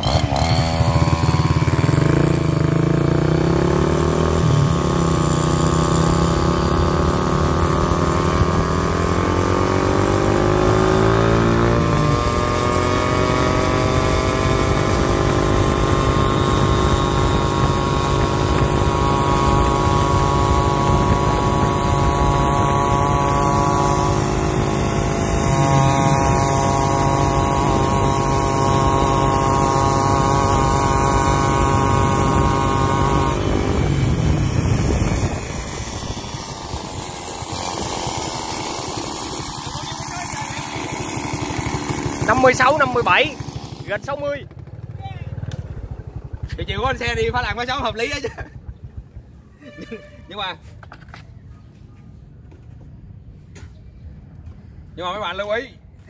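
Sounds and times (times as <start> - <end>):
motorcycle engines running hard: 0.0 - 49.6
road and wind noise: 0.0 - 56.0.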